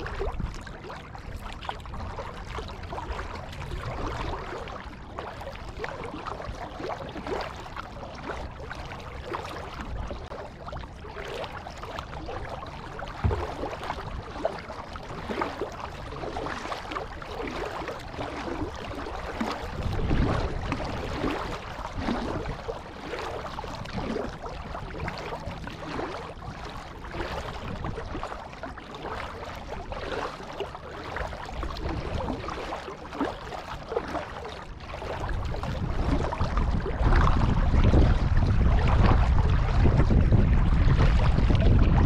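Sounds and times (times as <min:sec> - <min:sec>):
kayak paddle splashing water: 0:00.0 - 0:42.0
wind rumble on microphone: 0:00.0 - 0:42.0.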